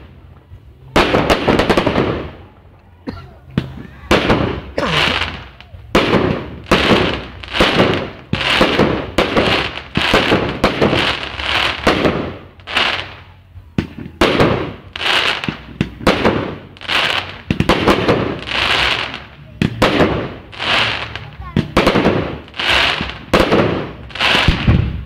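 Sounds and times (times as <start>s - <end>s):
fireworks launching and bursting: 0.0s - 2.5s, 3.6s - 25.0s.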